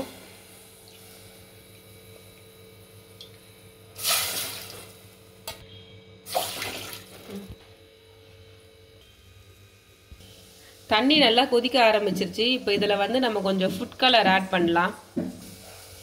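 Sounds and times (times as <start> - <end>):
faint steady hum: 0.0 - 15.8.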